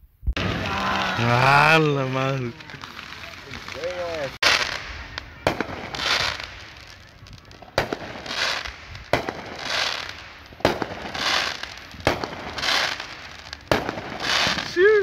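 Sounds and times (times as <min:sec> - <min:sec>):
fireworks bangs: 0:00.2 - 0:15.0
crackle of sparkling stars: 0:00.4 - 0:15.0.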